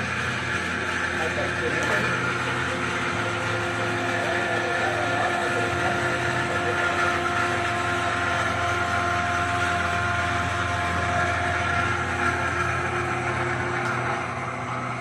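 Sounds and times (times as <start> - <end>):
machining noise: 0.0 - 15.0
milling machine spindle whine: 0.0 - 15.0.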